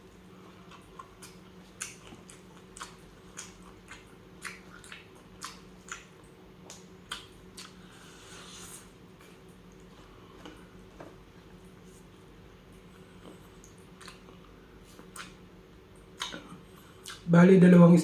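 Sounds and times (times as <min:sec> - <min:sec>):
person chewing food: 0:00.0 - 0:17.3.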